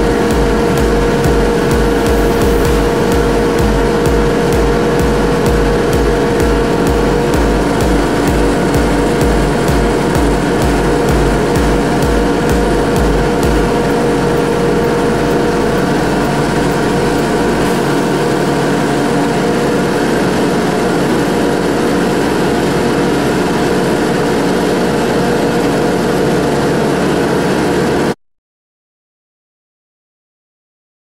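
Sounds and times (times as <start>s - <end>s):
mower drive running: 0.0s - 28.1s
tractor diesel engine running: 0.0s - 28.1s.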